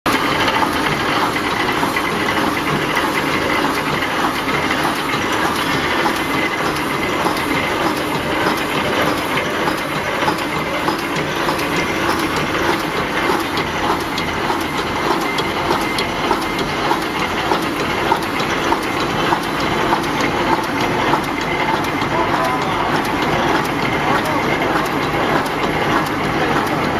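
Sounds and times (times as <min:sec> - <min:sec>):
machine clattering with rapid clicks: 0:00.1 - 0:26.9.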